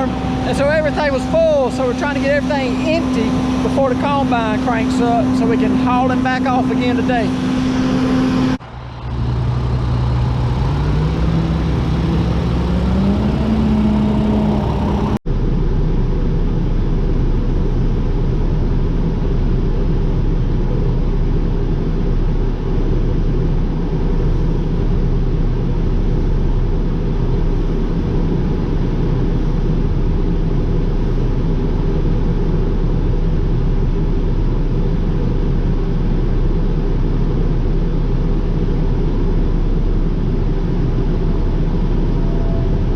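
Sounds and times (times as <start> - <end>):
engine running: 0.0 - 42.9
low engine drone: 0.0 - 42.9.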